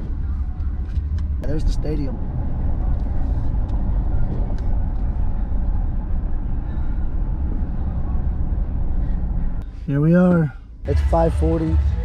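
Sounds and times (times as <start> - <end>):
car interior engine and road noise: 0.0 - 12.0.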